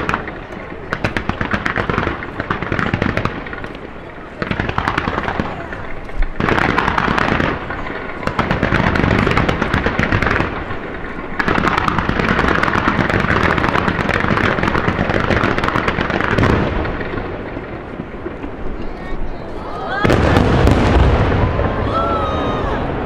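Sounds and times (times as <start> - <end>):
fireworks bursting and crackling: 0.0 - 23.0.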